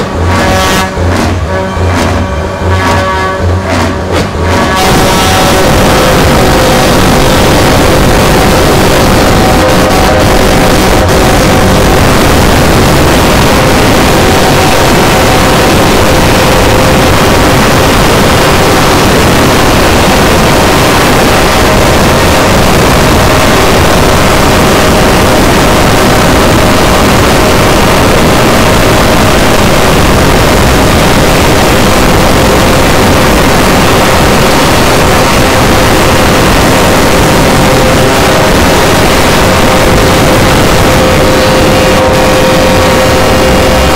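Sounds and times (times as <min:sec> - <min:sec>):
loud vehicle engine droning: 0:00.0 - 0:43.9.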